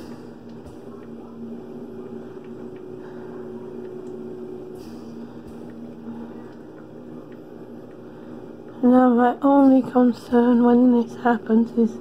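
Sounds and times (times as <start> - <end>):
machine hum with held tones: 0.0 - 12.0.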